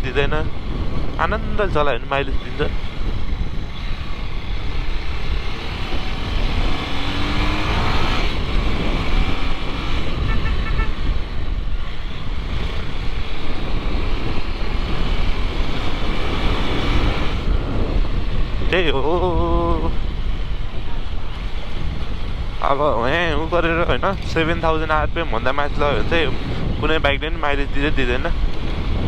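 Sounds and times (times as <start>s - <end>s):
motorcycle engine: 0.0s - 29.0s
road noise: 0.0s - 29.0s
wind noise: 0.0s - 29.0s.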